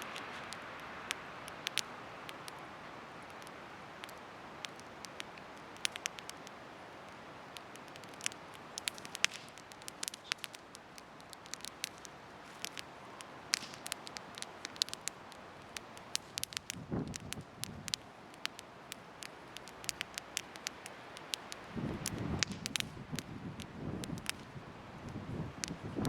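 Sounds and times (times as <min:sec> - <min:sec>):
bonfire crackling and popping: 0:00.0 - 0:26.0
soft rush of burning fire: 0:00.0 - 0:26.0.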